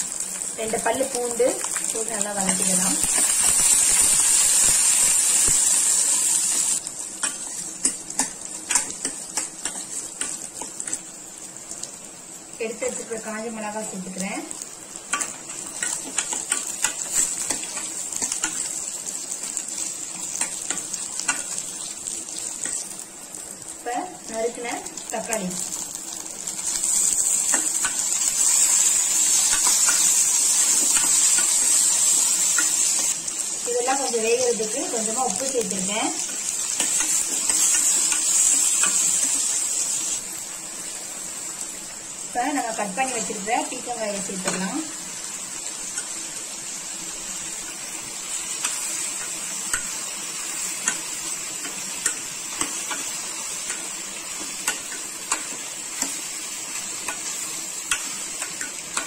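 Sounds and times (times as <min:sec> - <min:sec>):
shallots sizzling in hot oil: 0:00.0 - 0:59.0.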